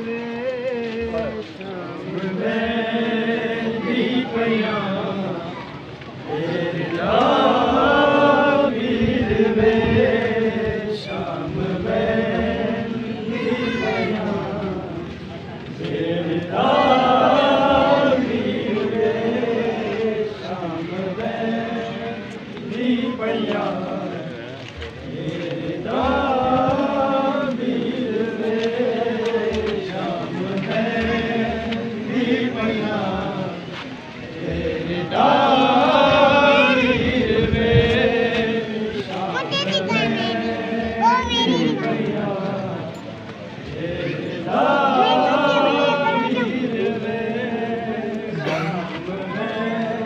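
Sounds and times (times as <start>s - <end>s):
men chanting a lament: 0.0s - 50.0s.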